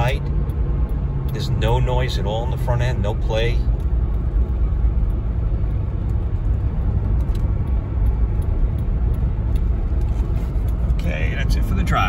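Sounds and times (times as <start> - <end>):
engine and tyre rumble inside car: 0.0 - 12.0.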